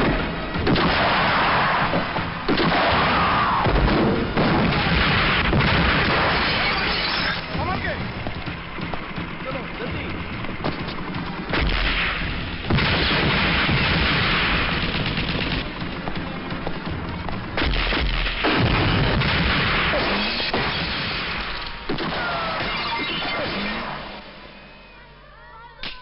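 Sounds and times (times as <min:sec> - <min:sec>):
booming blasts: 0:00.0 - 0:24.2
gunfire: 0:00.0 - 0:24.4.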